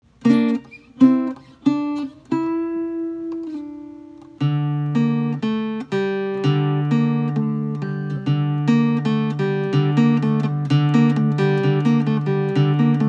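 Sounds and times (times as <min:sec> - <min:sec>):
plucked guitar chords: 0:00.0 - 0:13.0
strummed guitar with low notes: 0:00.0 - 0:13.0.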